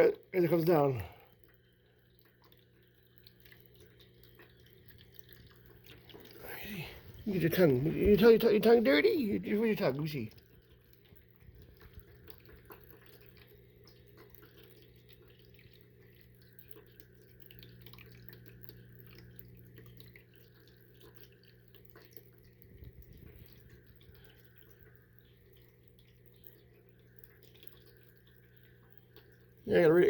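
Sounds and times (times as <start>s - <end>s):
water dripping into bowl: 0.0s - 30.0s
water fountain trickling: 0.0s - 30.0s.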